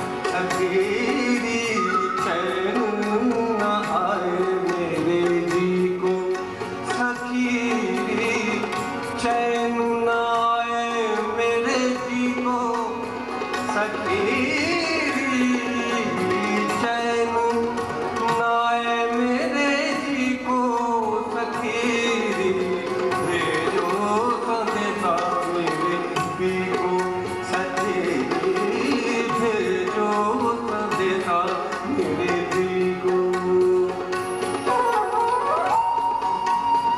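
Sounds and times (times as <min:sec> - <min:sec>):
harmonium melody: 0:00.0 - 0:36.9
tabla rhythm: 0:00.0 - 0:36.9.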